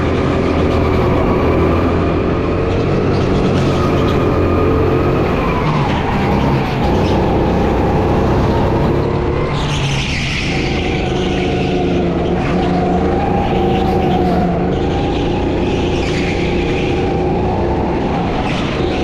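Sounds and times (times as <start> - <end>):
go-kart engine: 0.0 - 19.0.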